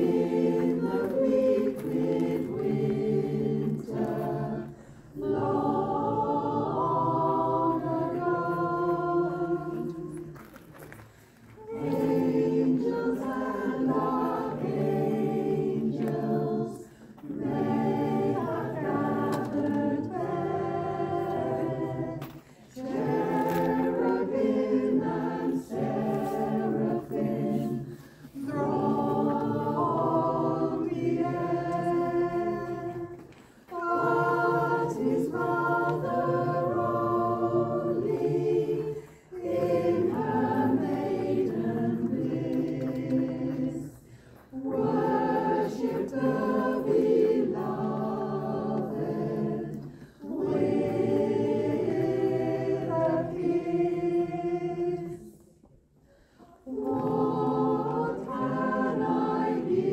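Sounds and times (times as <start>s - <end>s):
choir singing: 0.0s - 10.7s, 11.5s - 55.7s, 56.4s - 59.9s.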